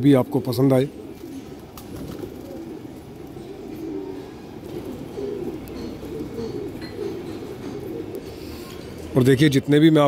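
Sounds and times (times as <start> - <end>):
pigeons cooing: 0.0 - 9.7.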